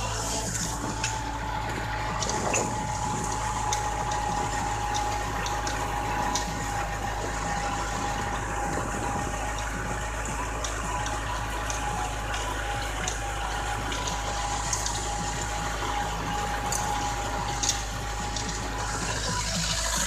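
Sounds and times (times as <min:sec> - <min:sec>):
high whine: 0:00.0 - 0:20.0
tractor diesel engine running: 0:00.0 - 0:20.0.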